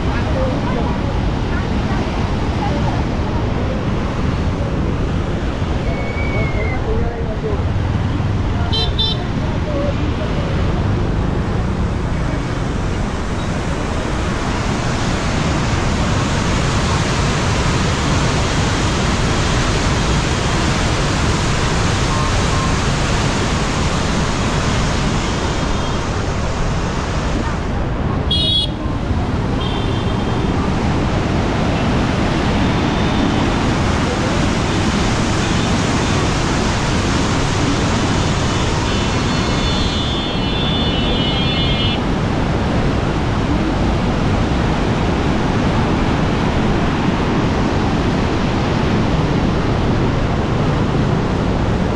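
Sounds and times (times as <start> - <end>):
passing traffic: 0.0 - 51.9
water roaring through sluice gates: 0.0 - 51.9.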